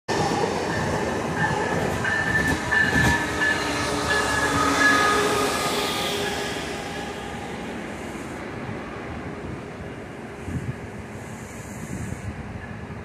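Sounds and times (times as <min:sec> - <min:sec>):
train wheels rumbling on rail: 0:00.1 - 0:13.0.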